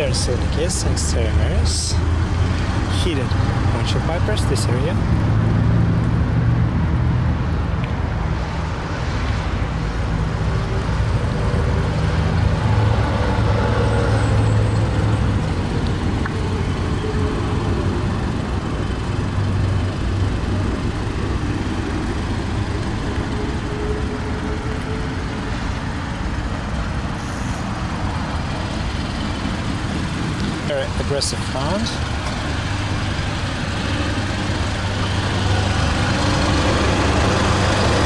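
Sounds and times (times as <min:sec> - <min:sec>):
low vehicle rumble: 0:00.0 - 0:38.0.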